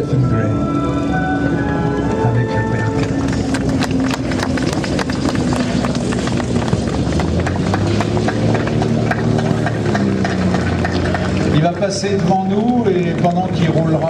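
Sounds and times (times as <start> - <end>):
radial aircraft engine throttled back: 0.0 - 14.0
exhaust popping and crackling: 2.7 - 14.0.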